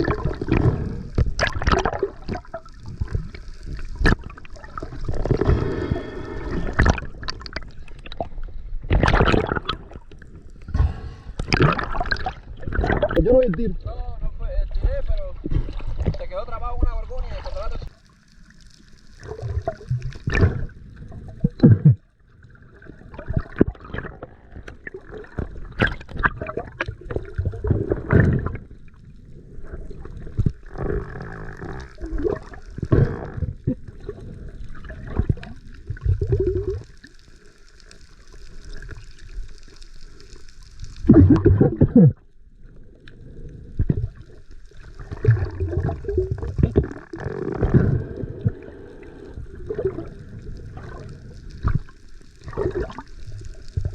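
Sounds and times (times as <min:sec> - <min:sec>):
water sloshing and gurgling: 0:00.0 - 0:13.8, 0:14.7 - 0:53.9.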